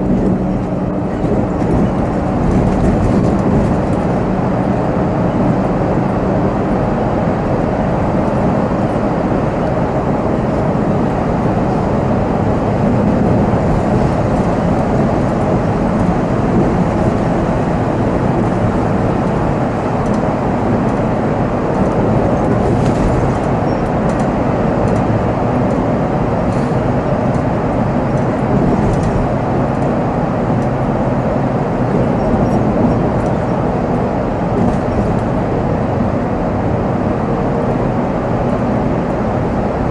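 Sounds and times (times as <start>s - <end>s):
bus engine hum: 0.0s - 39.9s
road noise: 0.0s - 39.9s.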